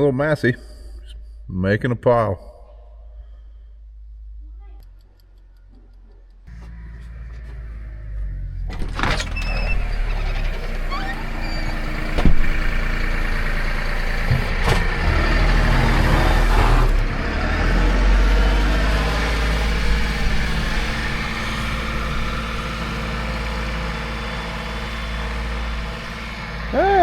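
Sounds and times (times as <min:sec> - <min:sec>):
vehicle engine running: 0:03.2 - 0:27.0.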